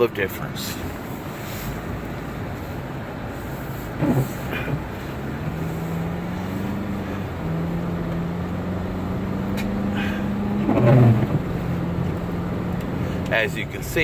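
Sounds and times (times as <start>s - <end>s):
car engine drone: 0.0s - 14.0s
road and tire noise: 0.0s - 14.0s.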